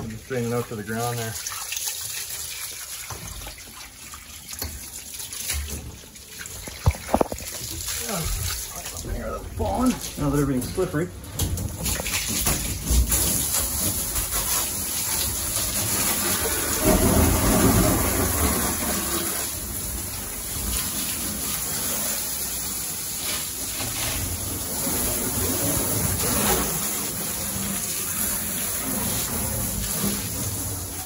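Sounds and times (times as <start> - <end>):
hose water splashing on metal: 0.0 - 31.0.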